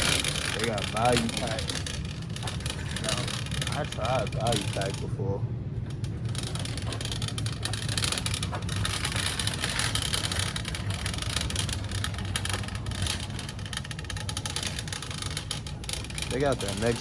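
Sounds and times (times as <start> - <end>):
shopping cart rolling and rattling: 0.0 - 17.0.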